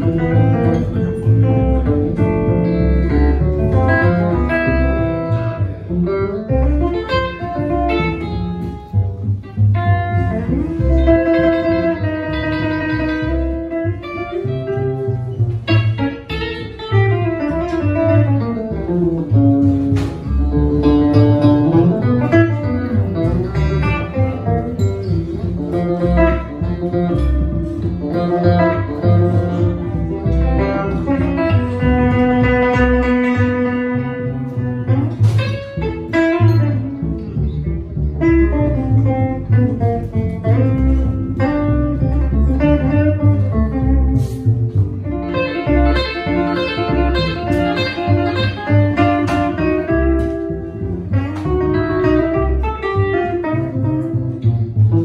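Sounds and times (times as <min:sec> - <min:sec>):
electric guitar playing: 0:00.0 - 0:55.0
plucked double bass: 0:00.0 - 0:55.0.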